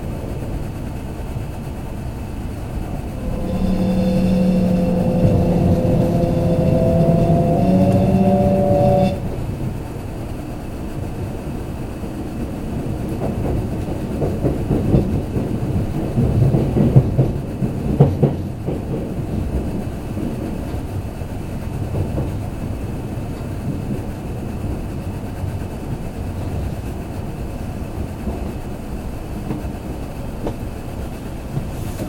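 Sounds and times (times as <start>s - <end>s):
train rumble inside carriage: 0.0s - 32.0s.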